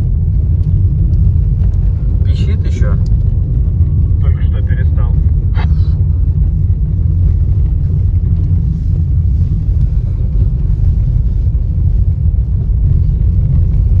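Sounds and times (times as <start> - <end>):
vehicle road rumble: 0.0 - 14.0.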